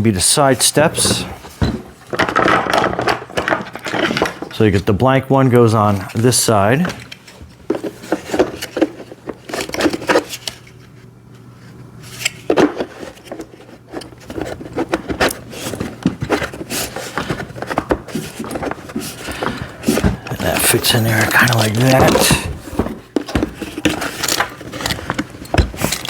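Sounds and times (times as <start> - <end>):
plastic parts knocking and scraping: 0.7 - 10.7, 12.2 - 26.0.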